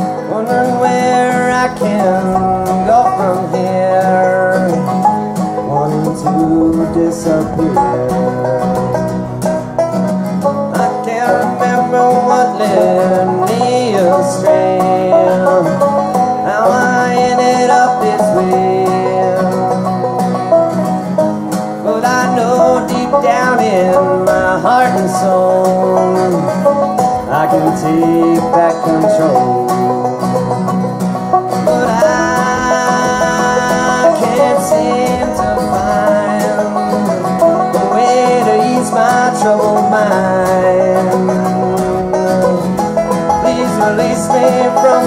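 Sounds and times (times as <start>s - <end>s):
banjo rolls: 0.0s - 45.0s
strummed acoustic guitar: 0.0s - 45.0s.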